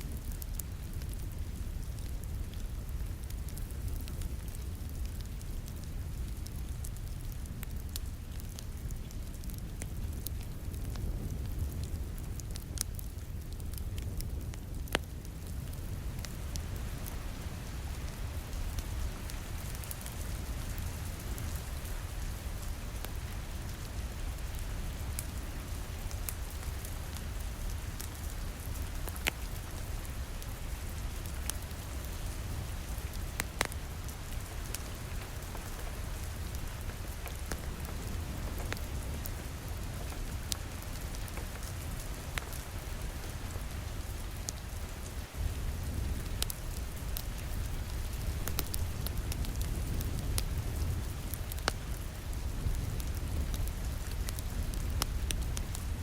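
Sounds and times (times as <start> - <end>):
crackling wood fire: 0.0 - 56.0.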